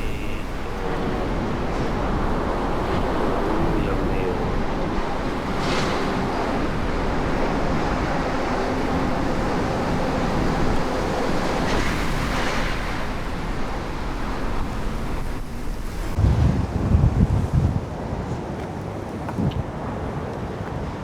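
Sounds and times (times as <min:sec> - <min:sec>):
low wind buffeting: 0:00.0 - 0:21.0
strong wind on microphone: 0:00.0 - 0:21.0.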